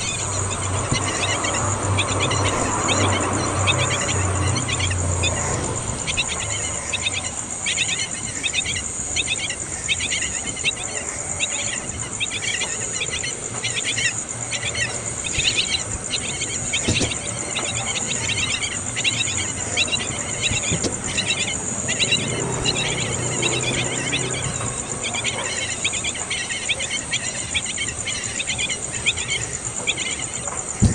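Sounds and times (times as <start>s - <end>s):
high-pitched insect drone: 0.0s - 30.9s
young birds chirping: 0.0s - 30.9s.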